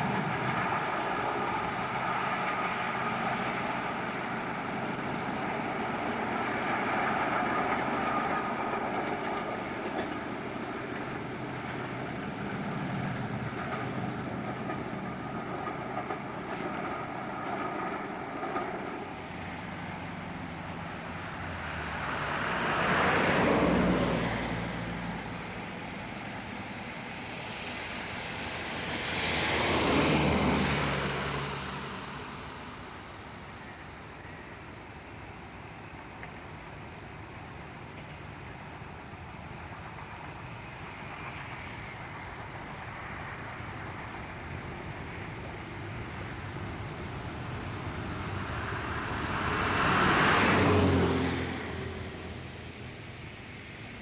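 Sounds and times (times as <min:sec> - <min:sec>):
train rushing rumble: 0:00.0 - 0:54.0.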